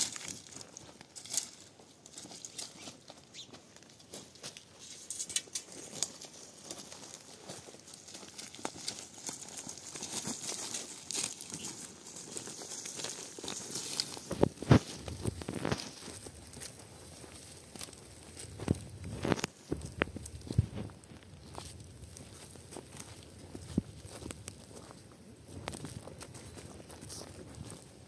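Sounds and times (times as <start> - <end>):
rustling and crackling: 0.0 - 28.0.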